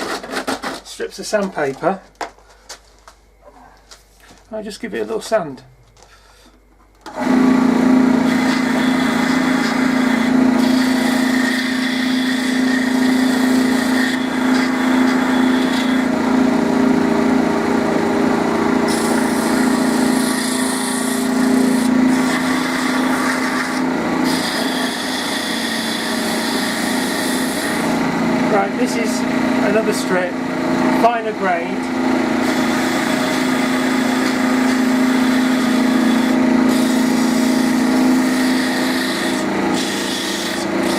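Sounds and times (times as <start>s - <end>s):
lathe motor humming: 7.1s - 40.9s.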